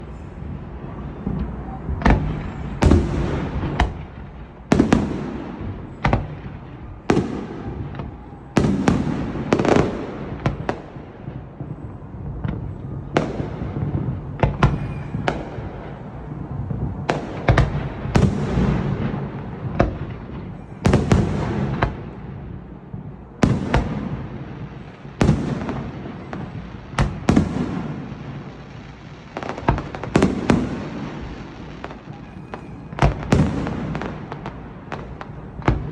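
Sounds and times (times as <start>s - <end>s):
fireworks bangs: 0.0s - 35.9s
fireworks crackling: 0.0s - 35.9s.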